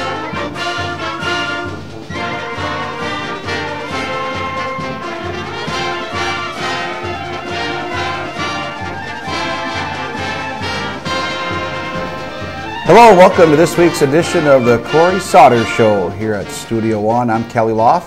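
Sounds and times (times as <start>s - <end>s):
orchestral music led by brass: 0.0s - 18.0s.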